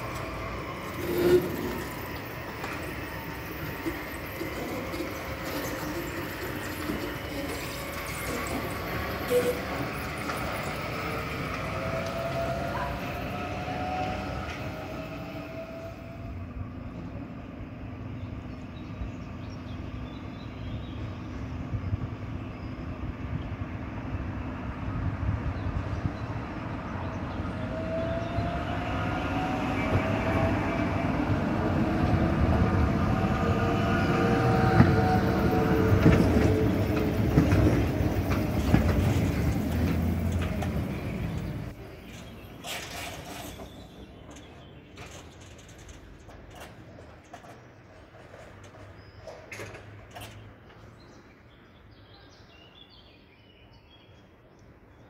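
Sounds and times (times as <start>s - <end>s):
tram tyres rumbling: 0.0s - 51.7s.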